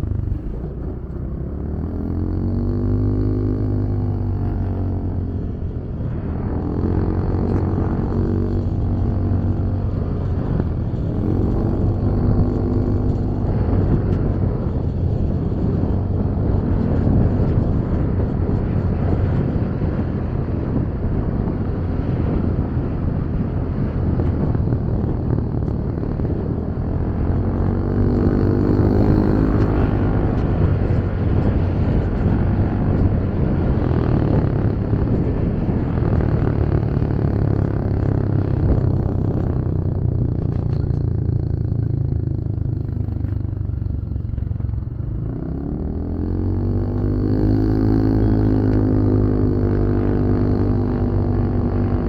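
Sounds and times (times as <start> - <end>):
another engine rising and falling: 0.0 - 52.0
motorcycle engine hum: 0.0 - 52.0
wind rush on microphone: 0.0 - 52.0.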